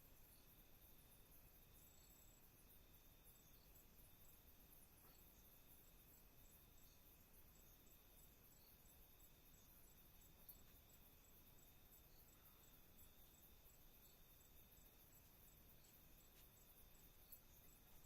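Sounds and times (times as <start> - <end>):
insect chirping: 0.0 - 18.0
low background hiss: 0.0 - 18.0.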